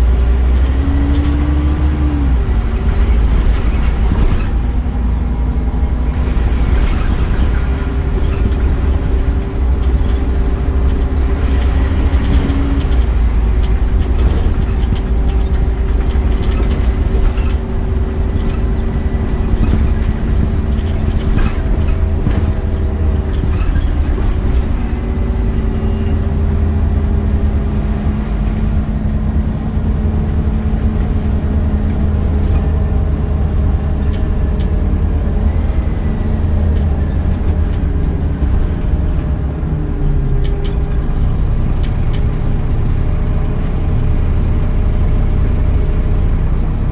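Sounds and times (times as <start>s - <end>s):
bus engine rumbling: 0.0s - 46.9s.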